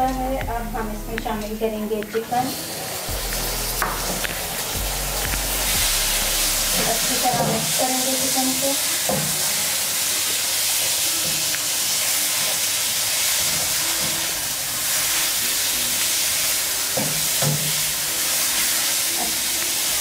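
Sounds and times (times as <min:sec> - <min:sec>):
chicken sizzling in hot oil: 0:01.2 - 0:20.0.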